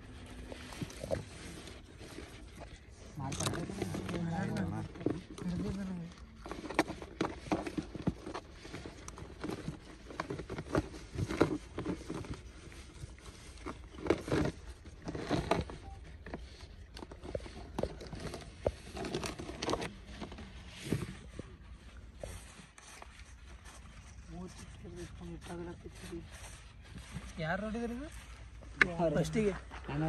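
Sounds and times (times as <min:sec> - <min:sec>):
plastic jug scraping on gravel: 0:00.0 - 0:30.0.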